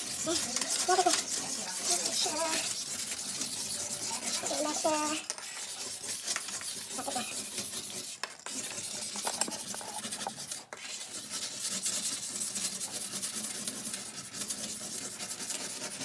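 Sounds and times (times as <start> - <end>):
pumice stick scraping on glass: 0.0 - 16.0.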